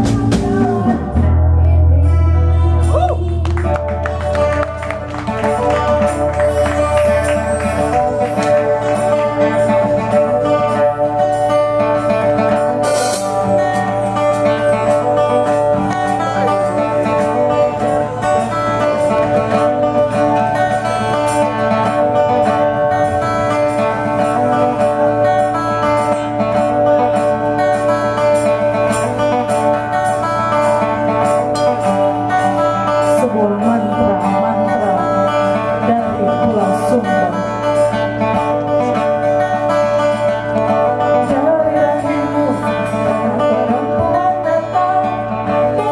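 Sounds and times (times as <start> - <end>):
person singing: 0.0 - 26.1, 31.8 - 38.4, 40.8 - 45.9
bass and drums: 0.0 - 44.8
acoustic guitar: 0.0 - 45.9.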